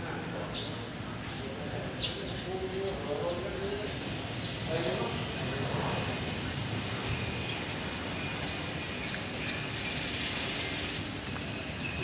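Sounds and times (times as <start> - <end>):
high pulsing buzz: 0.1 - 11.8.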